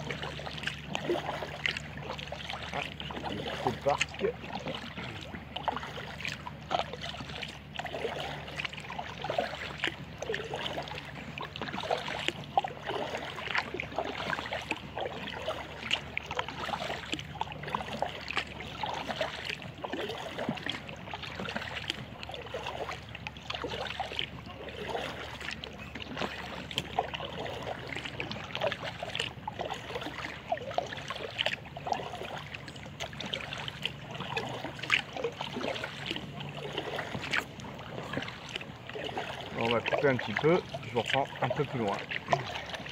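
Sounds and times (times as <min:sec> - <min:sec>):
kayak paddle splashing: 0:00.0 - 0:42.9
water dripping off paddle: 0:00.0 - 0:42.9.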